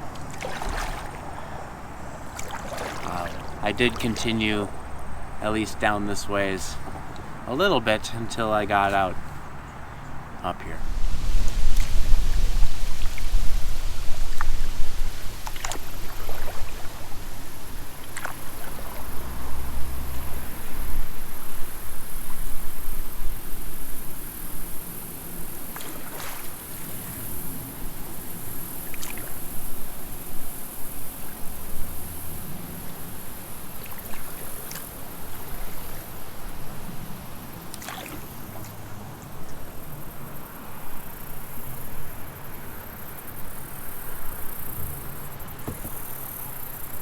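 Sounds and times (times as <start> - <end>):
paddle splashes: 0.0 - 10.2, 10.8 - 42.7, 43.3 - 47.0
creek water splashing: 0.0 - 47.0.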